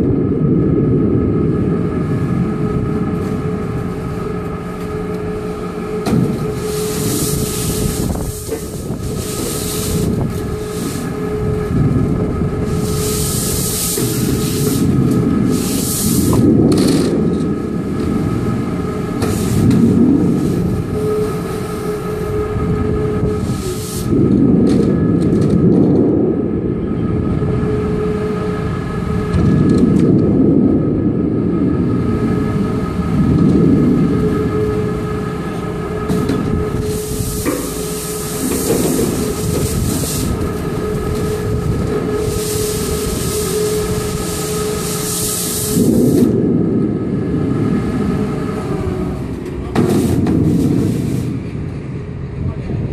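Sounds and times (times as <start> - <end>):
low rumble: 0.0 - 52.9
electric motor hum: 0.1 - 51.7.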